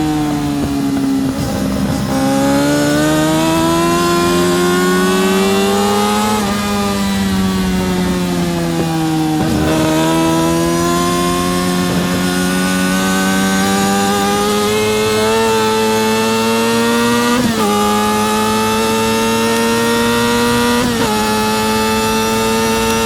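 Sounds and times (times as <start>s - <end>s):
wind rush: 0.0s - 19.4s
motorcycle engine at high revs: 0.0s - 23.0s.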